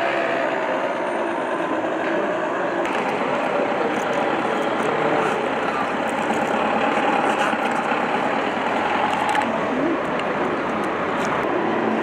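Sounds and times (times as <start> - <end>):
busy city street traffic hum: 0.0 - 12.0.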